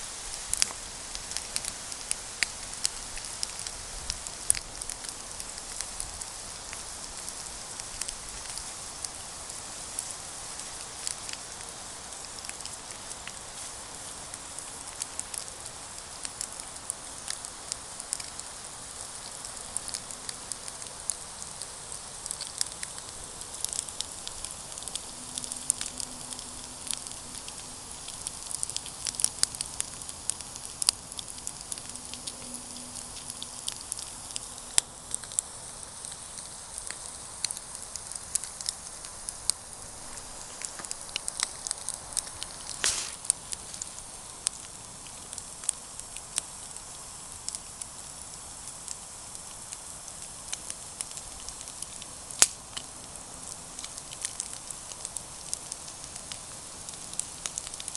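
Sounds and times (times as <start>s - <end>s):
campfire crackling and popping: 0.0s - 57.9s
fire hiss: 0.0s - 57.9s.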